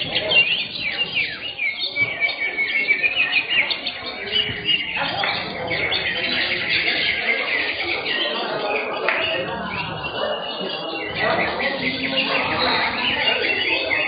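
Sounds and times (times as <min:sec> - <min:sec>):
birds singing chirps and trills: 0:00.0 - 0:14.0.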